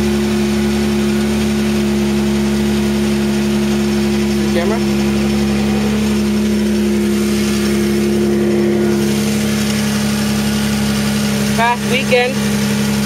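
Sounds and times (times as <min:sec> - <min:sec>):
car engine idling: 0:00.0 - 0:13.0
engine clacking rattle: 0:00.0 - 0:13.0.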